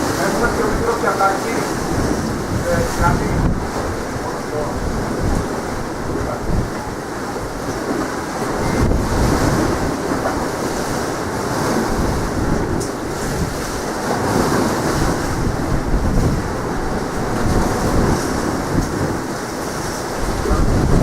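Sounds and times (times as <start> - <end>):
sea surf: 0.0 - 21.0
wind buffeting microphone: 0.0 - 21.0.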